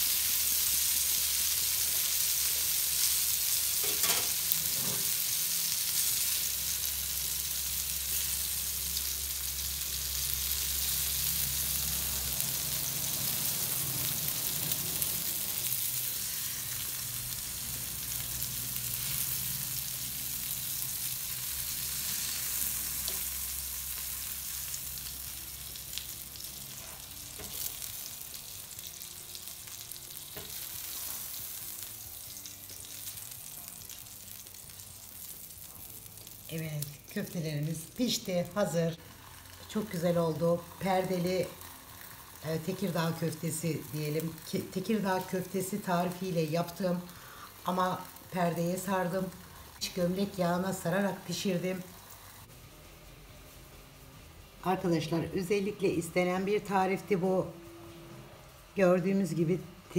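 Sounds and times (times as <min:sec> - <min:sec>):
meat sizzling on a griddle: 0:00.0 - 0:58.7.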